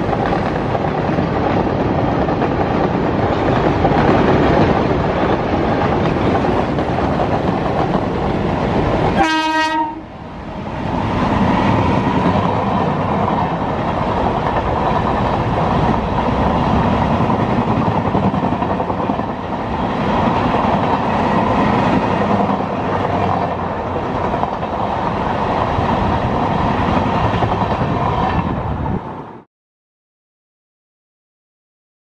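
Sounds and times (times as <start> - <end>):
train passing on rails: 0.0 - 29.5.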